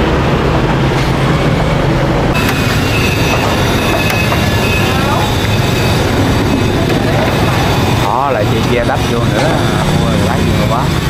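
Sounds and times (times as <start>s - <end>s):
vehicle traffic passing: 0.0s - 11.0s.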